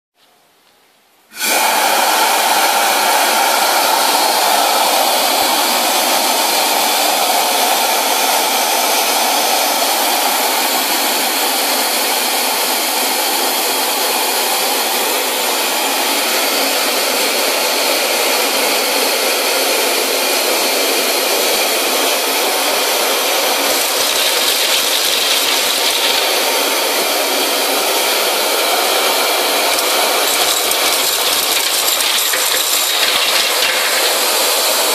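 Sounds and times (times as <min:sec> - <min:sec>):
vacuum cleaner rushing hiss: 0:01.3 - 0:34.9.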